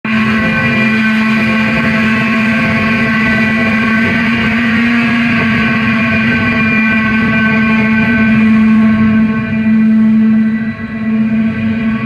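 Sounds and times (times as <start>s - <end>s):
electric guitars droning: 0.0s - 12.0s.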